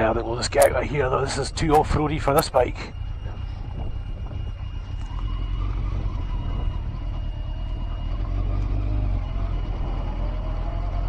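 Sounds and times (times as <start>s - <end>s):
motorcycle engine at low revs: 1.6s - 11.0s.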